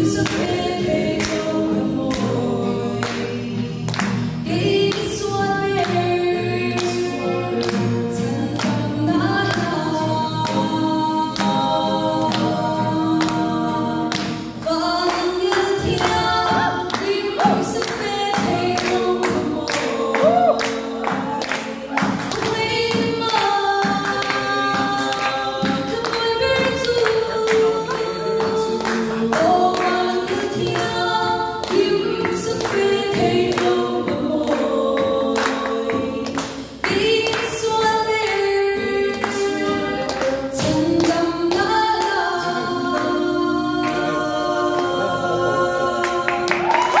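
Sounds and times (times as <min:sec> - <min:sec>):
strummed acoustic guitar: 0:00.0 - 0:46.6
woman singing into microphone: 0:00.0 - 0:47.0.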